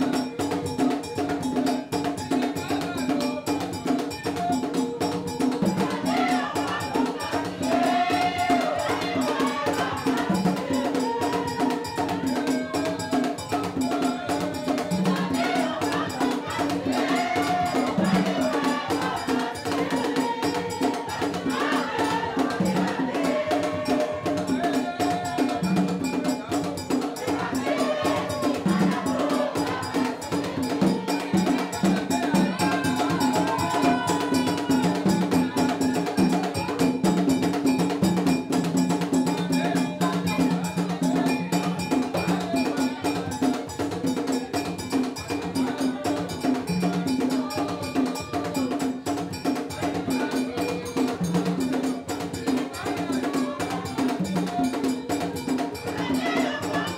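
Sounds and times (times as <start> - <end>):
drums: 0.0 - 56.9
group of people singing: 0.0 - 56.9.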